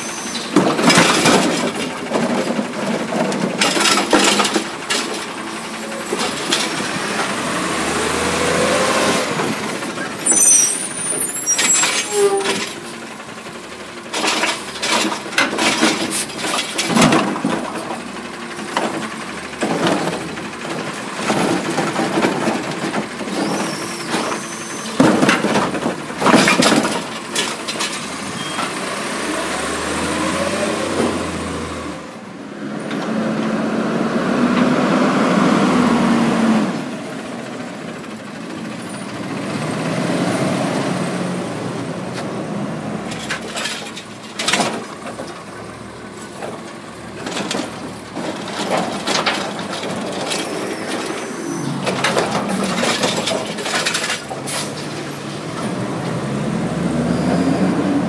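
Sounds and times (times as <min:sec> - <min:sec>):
diesel engine revving: 0:00.0 - 0:58.0
cart banging against truck hopper: 0:00.2 - 0:31.6, 0:42.1 - 0:58.0.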